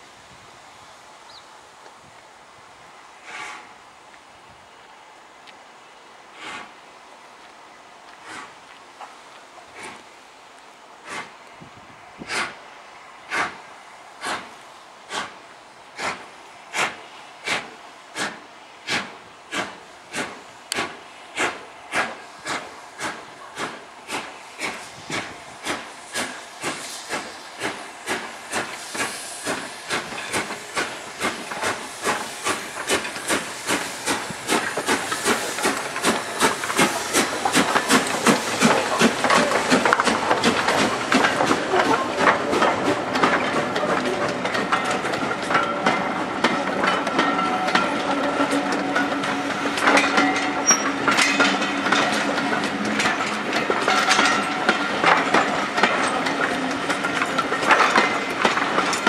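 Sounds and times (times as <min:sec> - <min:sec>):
steam locomotive chuffing: 0:03.2 - 0:03.8, 0:06.3 - 0:06.8, 0:08.2 - 0:08.7, 0:09.6 - 0:10.2, 0:11.0 - 0:11.4, 0:12.2 - 0:59.0.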